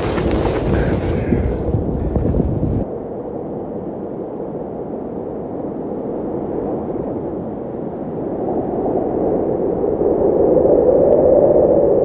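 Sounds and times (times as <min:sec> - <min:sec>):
snowstorm wind blowing: 0:00.0 - 0:12.0.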